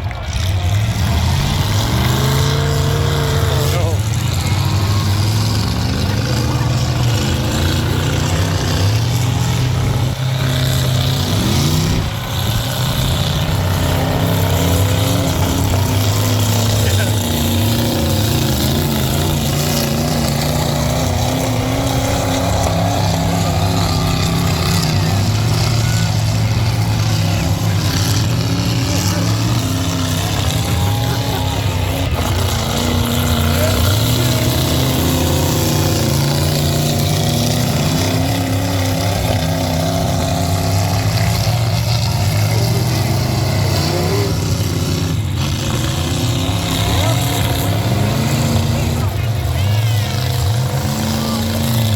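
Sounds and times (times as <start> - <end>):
truck engines revving: 0.0 - 51.9
voices: 0.0 - 51.9.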